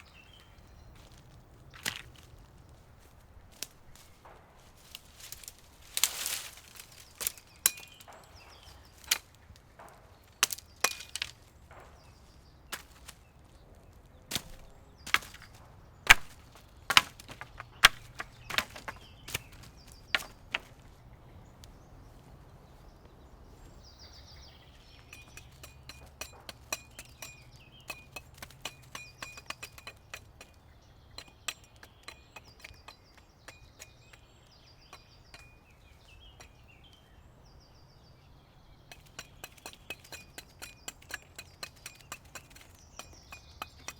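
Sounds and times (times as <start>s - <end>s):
sharp knocks and cracks: 0.0s - 13.4s, 14.2s - 20.9s, 24.8s - 36.6s, 38.9s - 43.9s.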